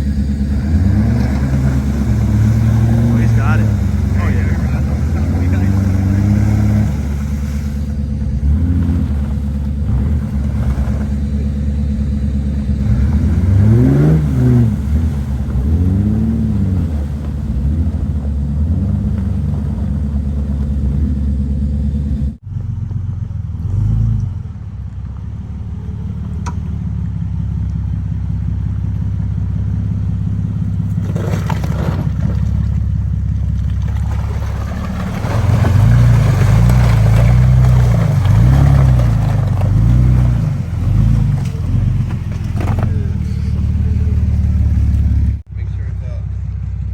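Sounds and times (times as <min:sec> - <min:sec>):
engine revving under load: 0:00.0 - 0:22.4, 0:29.7 - 0:45.5.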